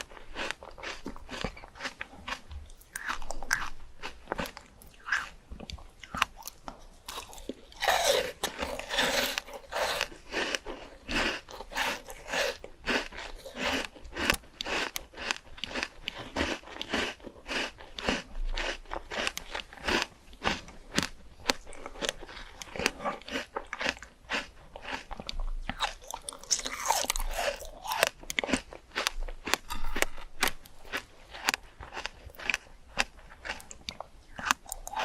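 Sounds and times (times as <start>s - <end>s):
person chewing crunchy fruit: 0.0s - 35.0s.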